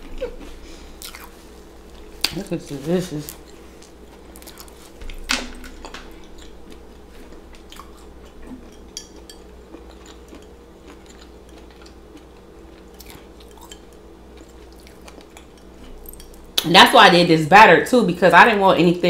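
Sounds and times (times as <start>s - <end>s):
chewing fried food: 0.0s - 16.6s
faint steady hum: 0.0s - 19.0s.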